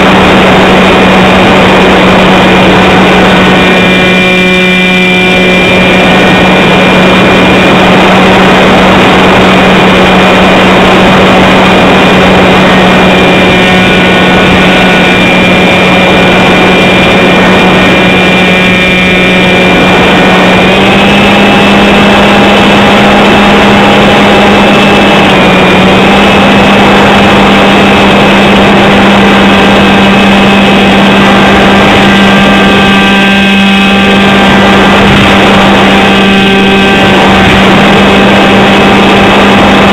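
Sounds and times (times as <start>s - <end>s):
model airplane motor and propeller: 0.0s - 39.9s
wind rushing: 5.2s - 33.1s, 33.8s - 39.9s.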